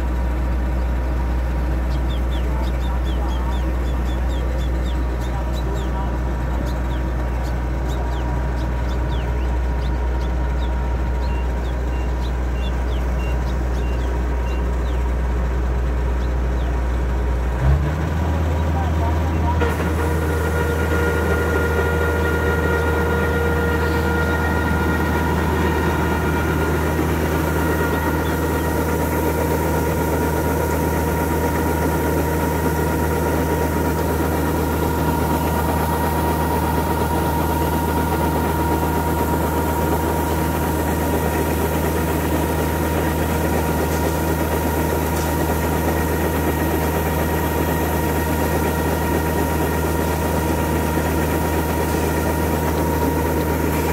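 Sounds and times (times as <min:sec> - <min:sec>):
auger whining: 0:00.0 - 0:53.9
diesel engines droning: 0:00.0 - 0:53.9.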